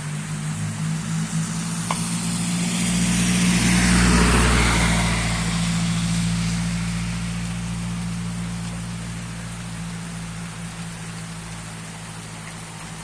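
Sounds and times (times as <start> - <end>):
heavy rain hiss: 0.0 - 13.0
vehicle passing on wet road: 0.0 - 13.0.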